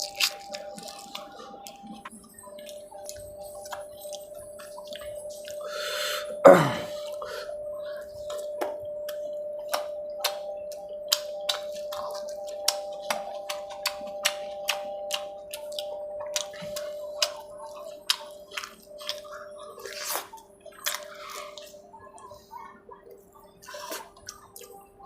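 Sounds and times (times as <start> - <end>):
chewing mouth clicks and smacks: 0.0 - 5.6, 8.2 - 22.4, 23.1 - 24.9
faint steady hum: 0.0 - 25.0.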